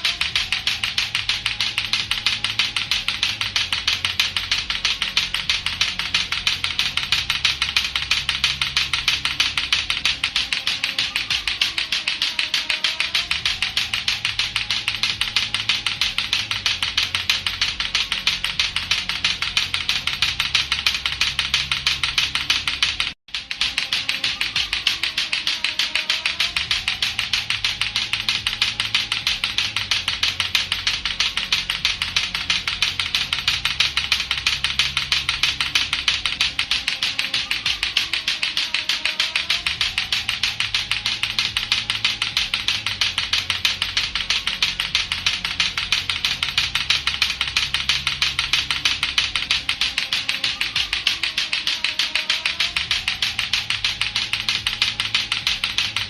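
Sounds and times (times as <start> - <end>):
clacker toy balls clacking: 0.0 - 56.0.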